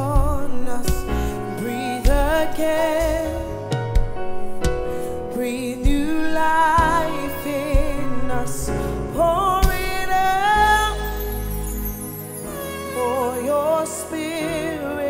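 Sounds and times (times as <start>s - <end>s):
woman singing gospel: 0.0s - 3.7s, 5.3s - 11.8s, 12.9s - 15.0s
instrumental backing: 0.0s - 15.0s.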